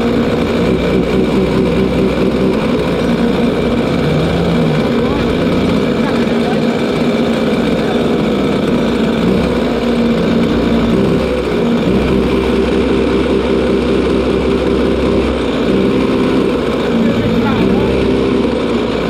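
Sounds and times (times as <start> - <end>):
kart engine idling: 0.0 - 19.0.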